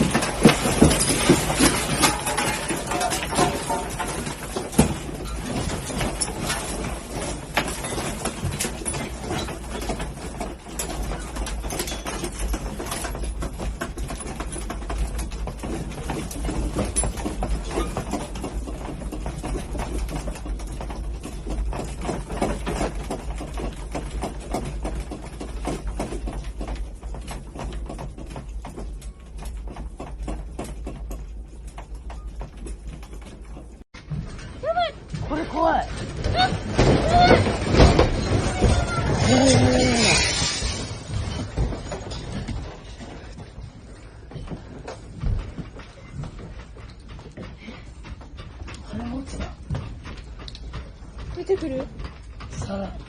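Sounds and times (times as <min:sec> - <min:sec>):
loose objects rattling and clattering: 0:00.0 - 0:53.0.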